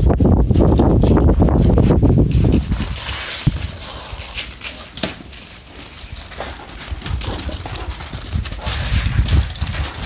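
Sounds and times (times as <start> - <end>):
dog paws crunching on snow: 0.5 - 10.0.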